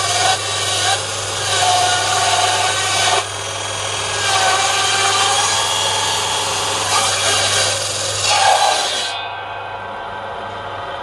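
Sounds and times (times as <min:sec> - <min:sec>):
circular saw cutting log: 0:00.0 - 0:09.3
saw motor hum: 0:00.0 - 0:09.3.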